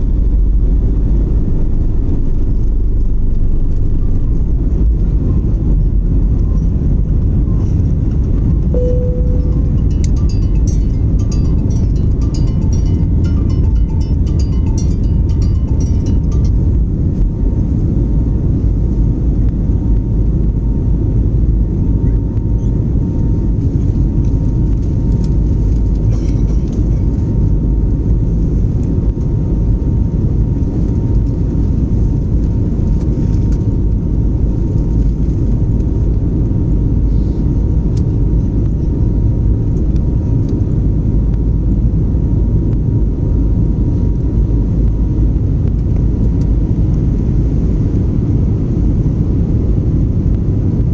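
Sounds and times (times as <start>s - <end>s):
faint steady whine: 0.0s - 50.9s
jet engines rumbling: 0.0s - 50.9s.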